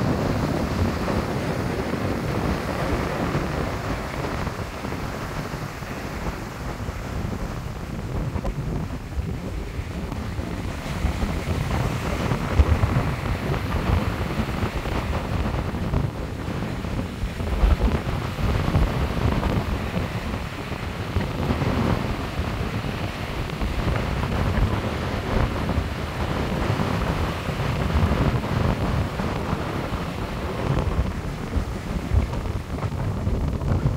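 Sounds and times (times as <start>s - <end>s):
sea surf breaking on beach: 0.0s - 33.9s
wind buffeting microphone: 0.0s - 33.9s.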